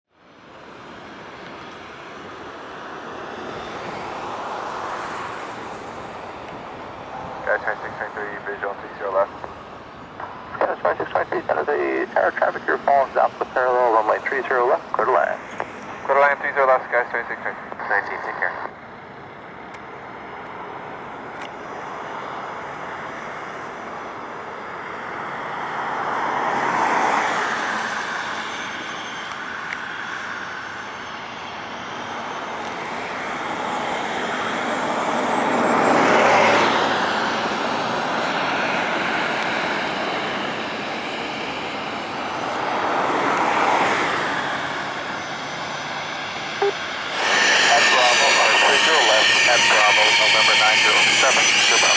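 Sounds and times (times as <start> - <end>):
jet engines running: 0.2 - 51.9
road traffic passing: 0.2 - 51.9.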